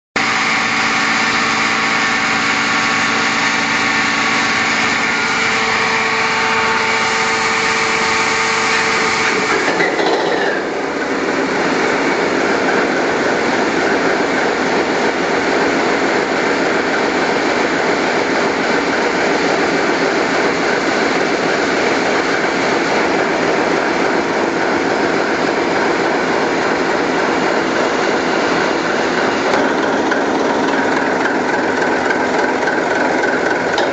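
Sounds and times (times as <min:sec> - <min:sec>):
diesel engine running: 0:00.2 - 0:33.9
steady multi-tone whine: 0:00.2 - 0:33.9.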